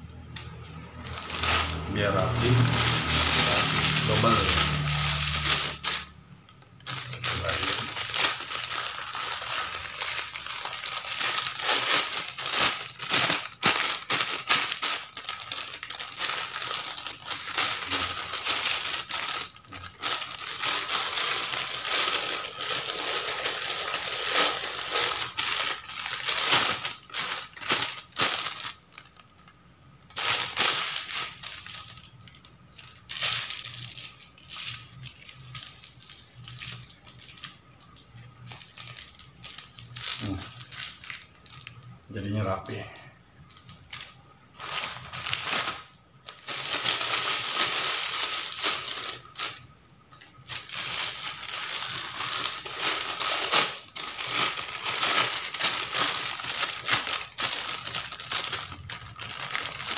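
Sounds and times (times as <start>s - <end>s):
plastic bag crinkling: 0.0s - 59.9s.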